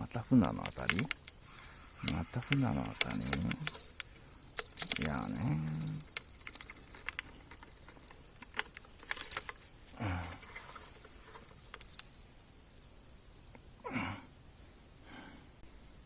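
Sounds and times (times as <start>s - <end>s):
cricket trilling: 0.0s - 15.7s.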